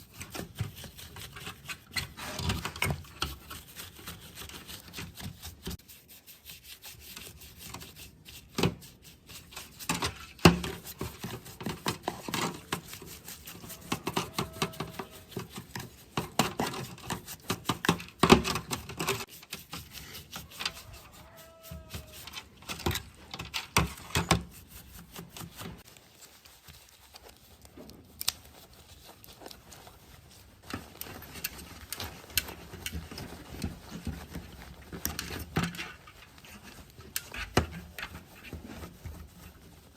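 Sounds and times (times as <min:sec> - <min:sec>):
rubbing and scraping: 0:00.0 - 0:39.9.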